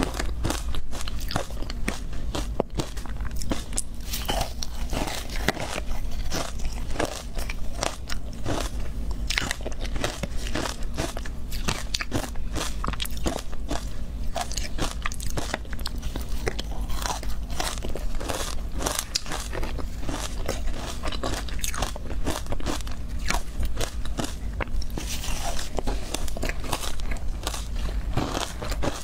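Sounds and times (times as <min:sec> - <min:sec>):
ice crunching while chewed: 0:00.0 - 0:29.0.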